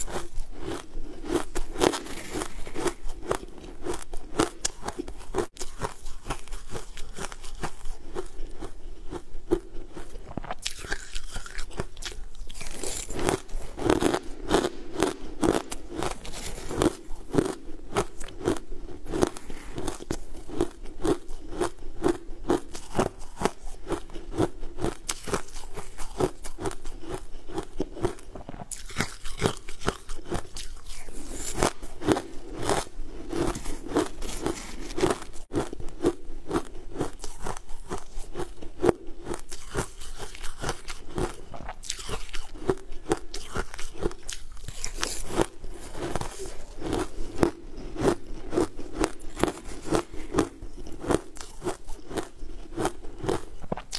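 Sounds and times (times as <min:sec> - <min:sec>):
crunching and chewing frozen food: 0:00.0 - 0:53.9.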